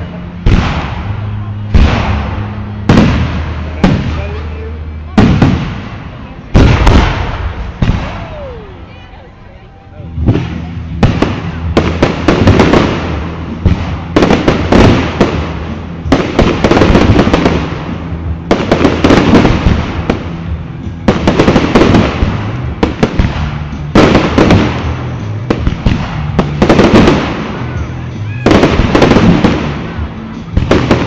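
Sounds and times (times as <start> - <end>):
fireworks crackling: 0.0 - 9.0, 10.1 - 31.0.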